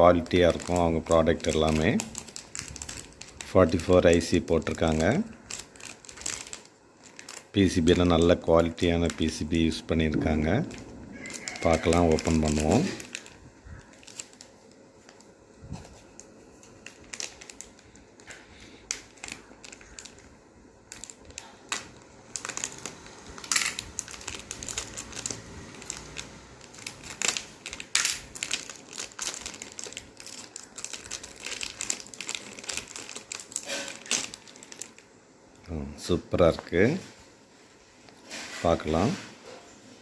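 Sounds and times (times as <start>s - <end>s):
packaging crinkling: 0.0s - 35.2s.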